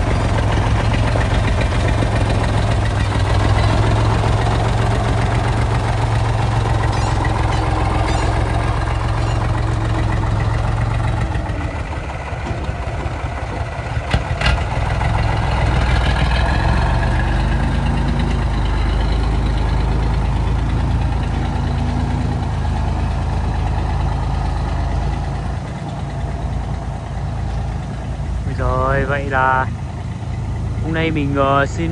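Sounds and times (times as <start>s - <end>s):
truck engine idling: 0.0s - 31.9s.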